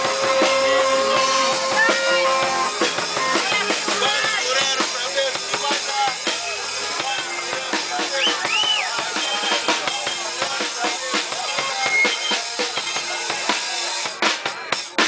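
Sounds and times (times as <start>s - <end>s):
drum kit steady beat: 0.0s - 15.0s
live rock band playing: 0.0s - 15.0s.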